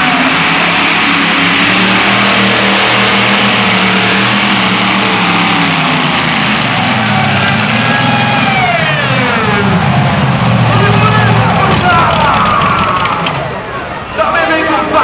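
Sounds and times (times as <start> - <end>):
tractor engine roaring under load: 0.0 - 15.0.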